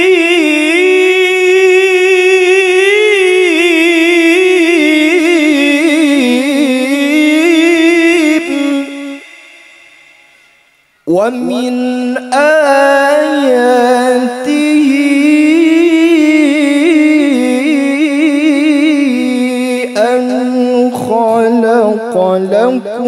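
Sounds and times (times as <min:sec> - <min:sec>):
person reciting melodically with echo: 0:00.0 - 0:23.0.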